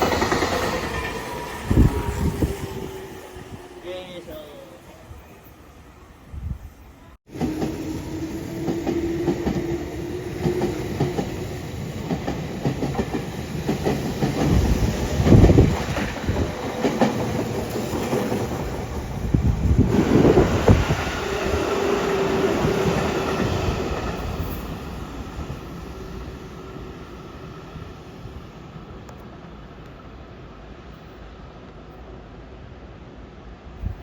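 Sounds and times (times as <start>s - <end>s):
train hum: 0.0s - 34.0s.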